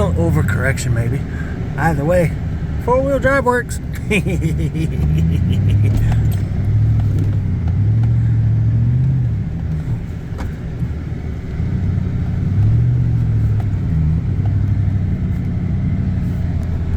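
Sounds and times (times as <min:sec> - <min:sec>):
vehicle engine revving: 0:00.0 - 0:16.9.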